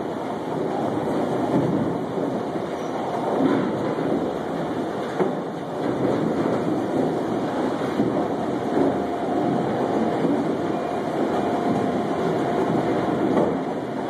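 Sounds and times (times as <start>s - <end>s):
crane mechanical rumble: 0.0s - 14.0s.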